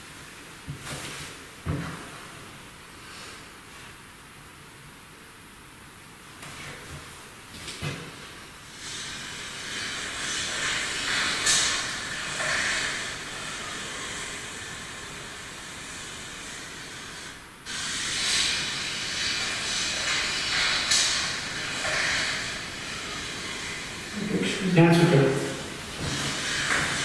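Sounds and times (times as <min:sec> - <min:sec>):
recorder playback hiss: 0:00.0 - 0:27.0.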